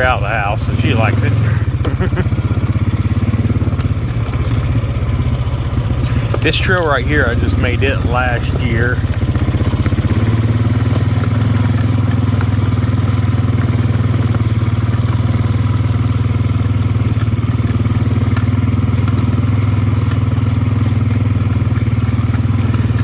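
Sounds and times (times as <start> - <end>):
atv engine running: 0.0 - 23.0
faint rattles and clatter: 0.0 - 23.0.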